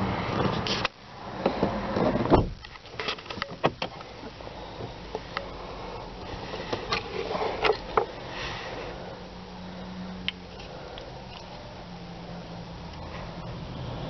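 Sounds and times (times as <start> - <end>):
low steady hum: 1.0 - 14.0.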